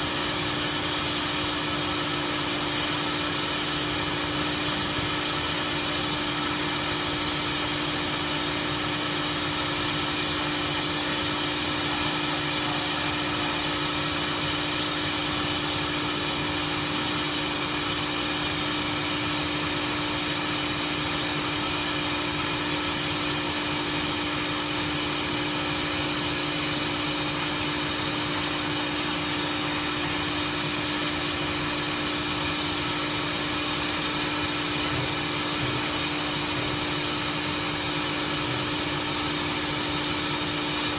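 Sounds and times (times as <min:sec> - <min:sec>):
welding machine humming: 0:00.0 - 0:40.9.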